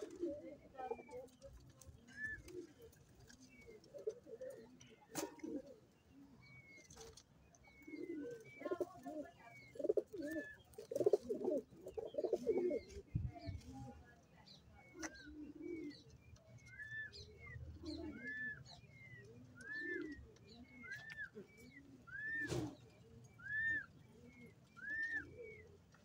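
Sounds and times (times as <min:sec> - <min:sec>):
pigeons cooing: 0:00.0 - 0:07.0, 0:07.6 - 0:13.8, 0:14.9 - 0:26.0.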